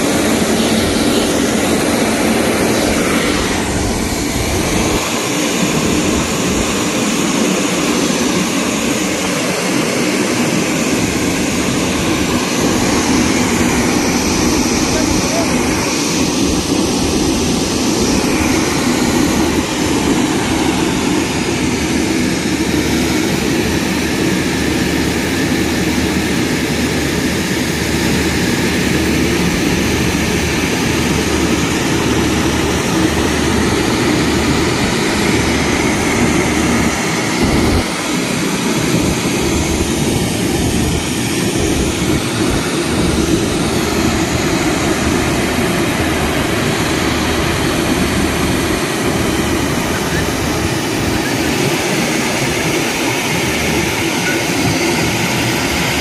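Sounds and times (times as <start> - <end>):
water jet rushing: 0.0 - 56.0.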